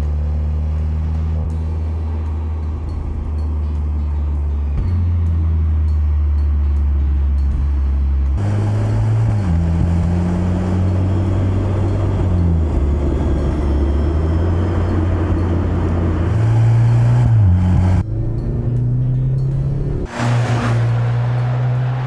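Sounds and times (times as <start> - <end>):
car engine running: 0.0 - 22.0
road and wind noise: 0.0 - 22.0.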